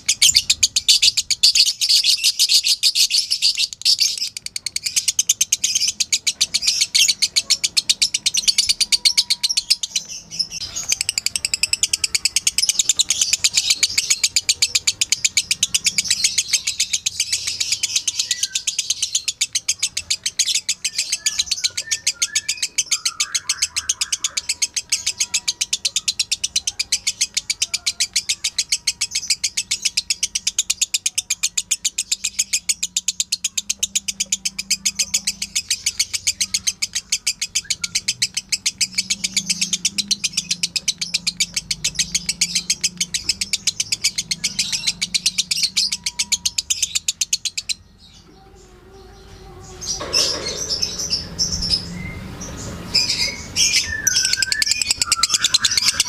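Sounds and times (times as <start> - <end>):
lovebird chattering: 0.0 - 47.9, 49.0 - 56.0.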